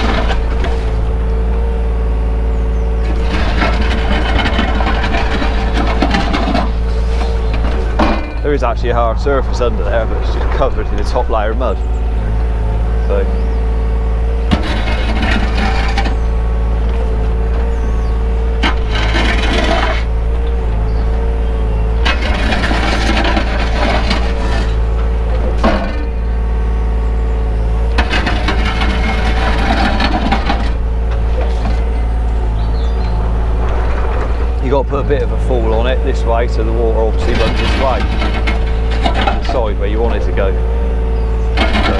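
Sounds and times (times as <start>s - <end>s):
bucket scraping mud: 0.0s - 2.0s, 2.9s - 41.9s
diesel engine running: 0.0s - 41.9s.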